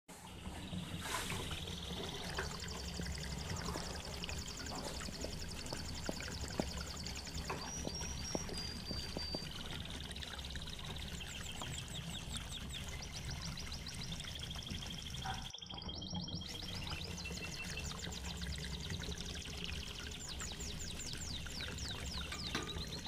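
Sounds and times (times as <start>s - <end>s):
steady low hum: 0.2s - 23.0s.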